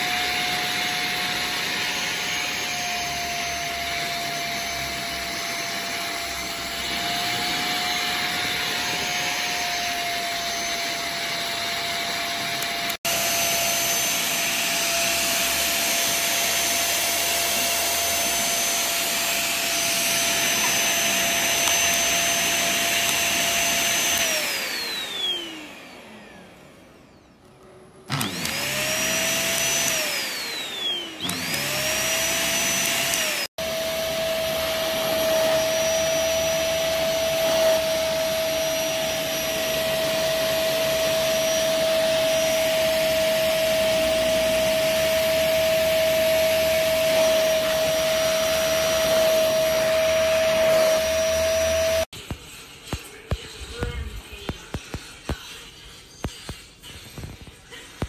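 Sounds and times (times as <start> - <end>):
handheld vacuum cleaner motor whine: 0.0 - 52.1.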